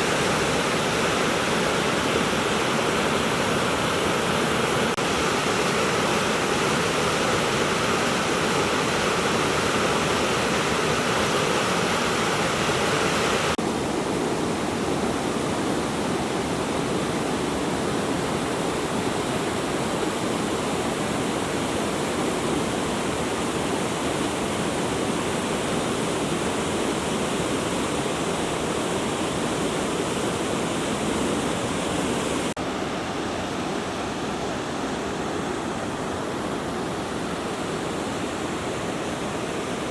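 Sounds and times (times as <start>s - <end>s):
river rushing through rocky gorge: 0.0s - 39.9s.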